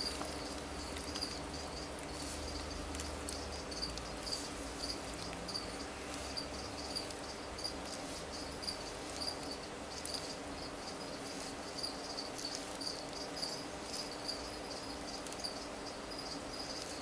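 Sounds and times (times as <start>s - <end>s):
cricket chirping: 0.0s - 17.0s
steady low hum: 0.0s - 17.0s.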